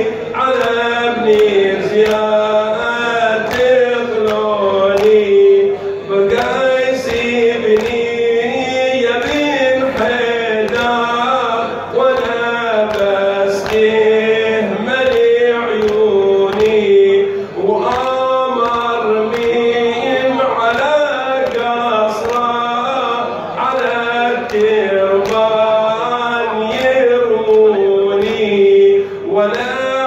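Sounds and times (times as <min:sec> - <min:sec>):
man chanting into a microphone: 0:00.0 - 0:30.0
rhythmic chest-beating: 0:00.0 - 0:30.0.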